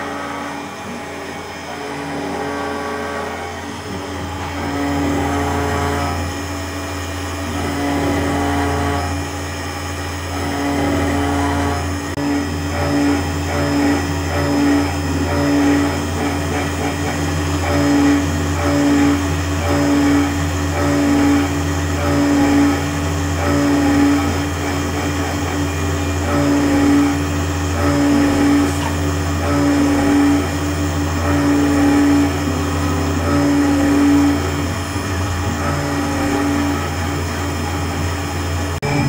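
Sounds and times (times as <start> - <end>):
router spindle motor running: 0.0 - 39.0.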